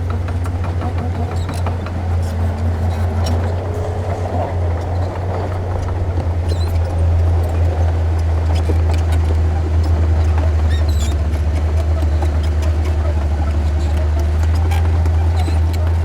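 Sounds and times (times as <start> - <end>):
faint clicks and knocks: 0.0 - 16.0
heavy diesel engine droning: 0.0 - 16.0.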